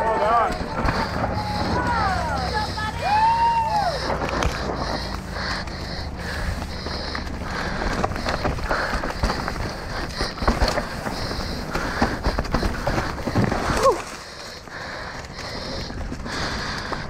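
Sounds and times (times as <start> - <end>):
bike tyres rattling over rock: 0.0 - 17.0
steady rush of noise: 0.0 - 17.0.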